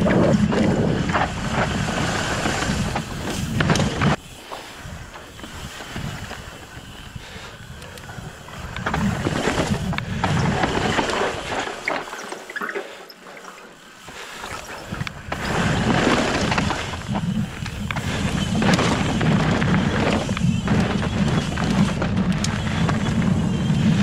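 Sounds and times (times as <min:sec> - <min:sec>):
wind buffeting microphone: 0:00.0 - 0:11.6, 0:14.8 - 0:24.0
mountain bike rolling over rock: 0:00.0 - 0:24.0.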